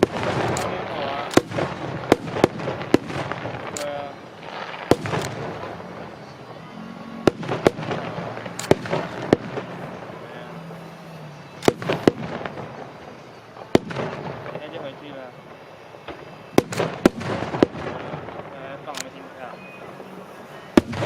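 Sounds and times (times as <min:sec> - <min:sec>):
crowd murmuring: 0:00.0 - 0:21.0
fireworks bursting in sharp bangs: 0:00.0 - 0:21.0.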